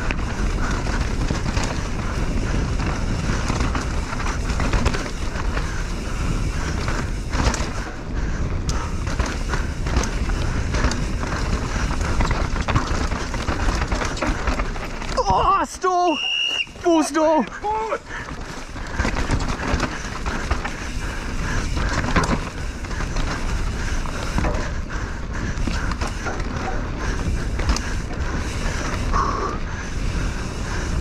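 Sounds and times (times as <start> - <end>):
wind rumbling on microphone: 0.0 - 15.8, 16.6 - 31.0
bike clattering over bumps: 0.0 - 31.0
tyres on dirt: 0.0 - 31.0.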